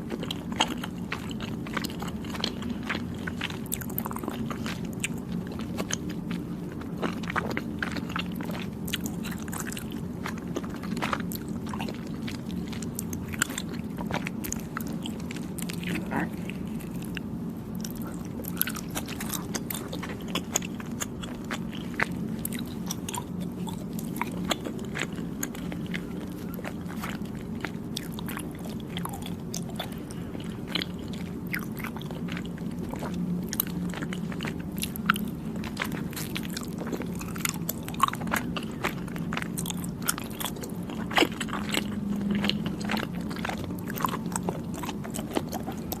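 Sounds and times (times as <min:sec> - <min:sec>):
close chewing mouth sounds: 0:00.0 - 0:46.0
low hum: 0:00.0 - 0:46.0.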